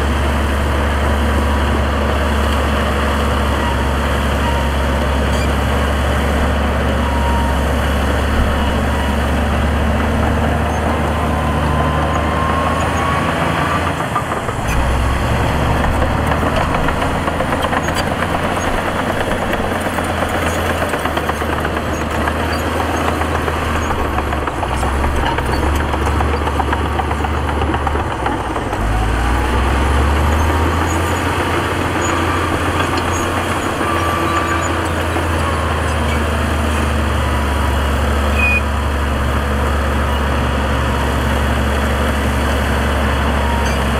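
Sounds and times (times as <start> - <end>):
heavy diesel engines droning: 0.0 - 43.9.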